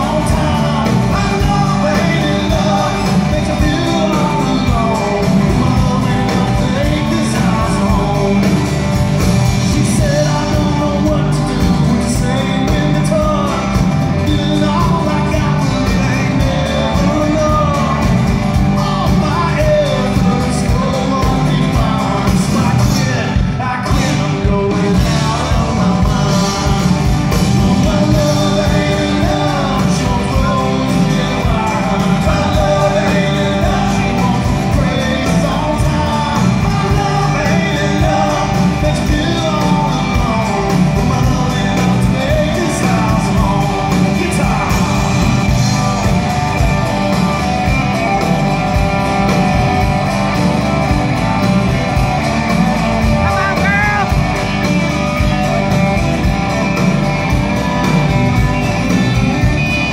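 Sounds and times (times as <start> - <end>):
lead singer singing: 0.0 - 59.9
live rock band playing: 0.0 - 59.9.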